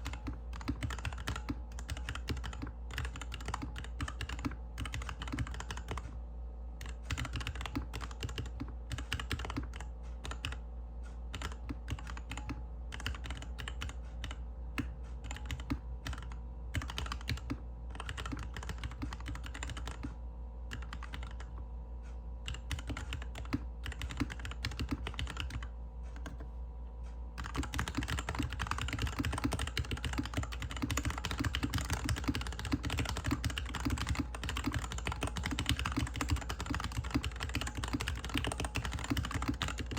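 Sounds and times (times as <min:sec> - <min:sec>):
typing on mechanical keyboard: 0:00.0 - 0:06.1, 0:06.8 - 0:10.6, 0:11.3 - 0:21.6, 0:22.5 - 0:26.4, 0:27.4 - 0:39.9.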